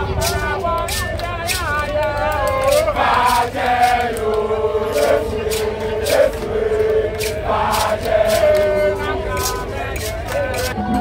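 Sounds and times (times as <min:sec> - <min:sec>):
voices chanting held notes: 0:00.0 - 0:11.0.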